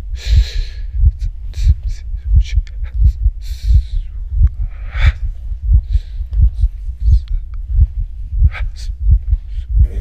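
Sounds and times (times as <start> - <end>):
breathy whispery sounds: 0.0 - 10.0.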